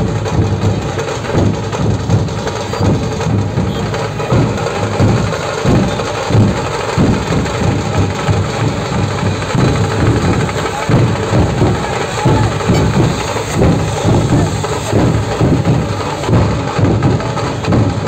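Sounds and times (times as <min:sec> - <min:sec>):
barrel drums beaten with sticks: 0:00.0 - 0:18.0.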